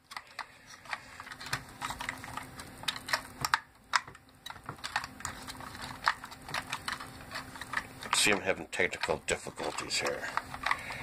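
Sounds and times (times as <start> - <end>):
faint steady hum: 0.0 - 11.0
plastic parts clicking and tapping: 0.0 - 11.0.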